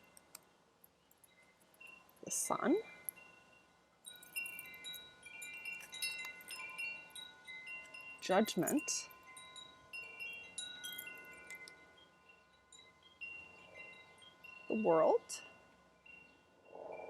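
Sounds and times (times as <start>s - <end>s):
wind chimes ringing: 0.0s - 0.4s, 1.0s - 17.0s.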